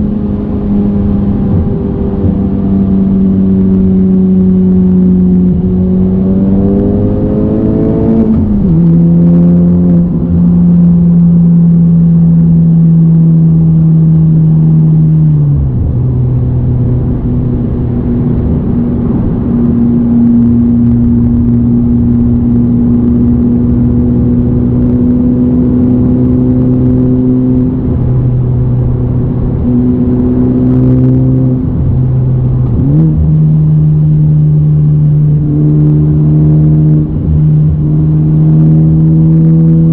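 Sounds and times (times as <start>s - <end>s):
car engine revving from cabin: 0.0s - 39.9s.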